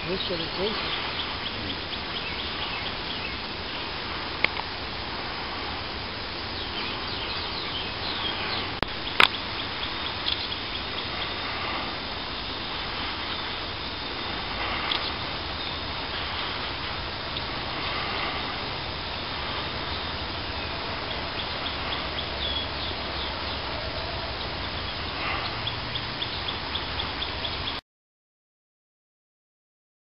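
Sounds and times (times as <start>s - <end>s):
outdoor background noise: 0.0s - 27.8s.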